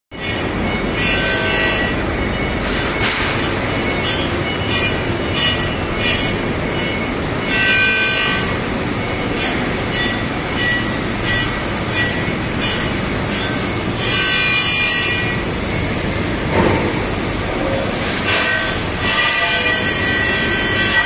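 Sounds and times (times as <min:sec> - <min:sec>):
grinding machine with metallic squeal: 0:00.1 - 0:21.0.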